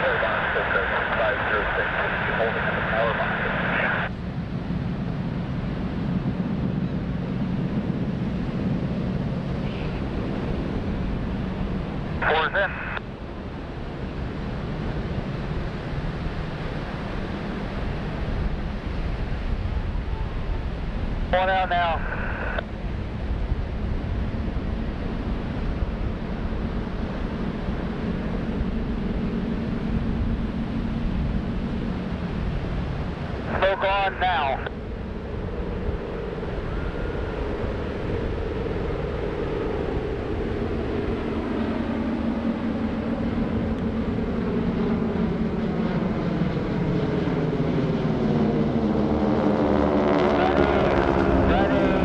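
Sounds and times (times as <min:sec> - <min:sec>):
distant propeller planes droning: 0:00.0 - 0:52.0.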